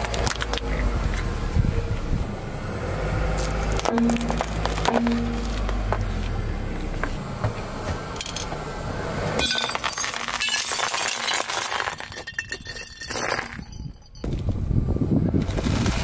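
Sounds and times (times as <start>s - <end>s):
car tyre rolling rumble: 0.0s - 16.0s.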